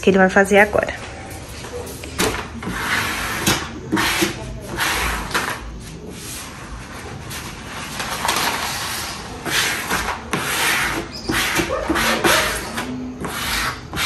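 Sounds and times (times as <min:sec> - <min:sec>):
rubbing vinyl on countertop: 0:01.4 - 0:14.0.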